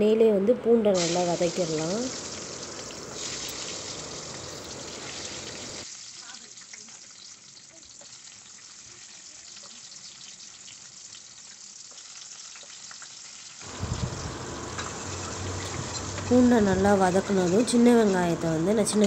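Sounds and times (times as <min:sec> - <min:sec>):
garlic sizzling in hot oil: 0:01.0 - 0:19.0.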